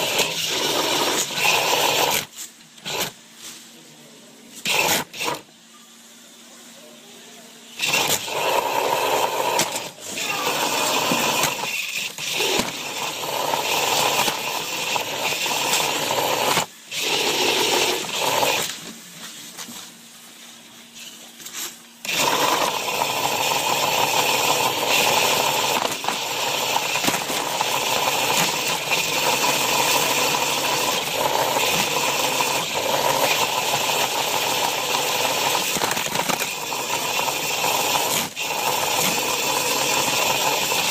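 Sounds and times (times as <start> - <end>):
robot motors whirring: 0.0 - 3.2, 4.6 - 5.5, 7.8 - 18.9, 21.0 - 40.9.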